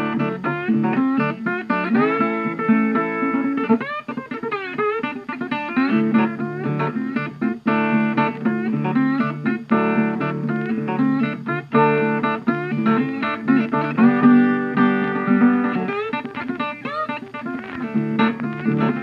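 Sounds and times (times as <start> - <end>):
plucked acoustic guitar tune: 0.0 - 19.0.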